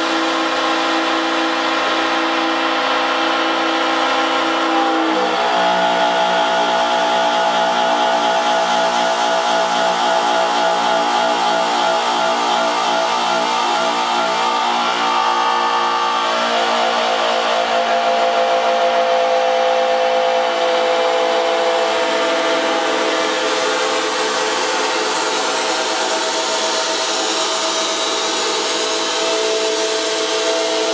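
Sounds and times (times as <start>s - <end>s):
loud buzzing drone: 0.0s - 30.9s.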